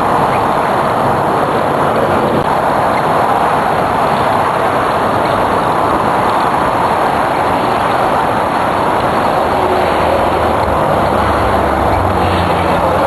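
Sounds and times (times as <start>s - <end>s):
loud rushing noise: 0.0s - 13.0s.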